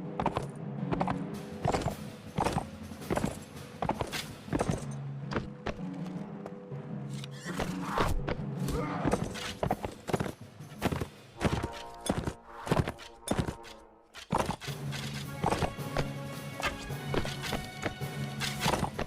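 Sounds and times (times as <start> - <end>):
background music with low notes: 0.0 - 19.0.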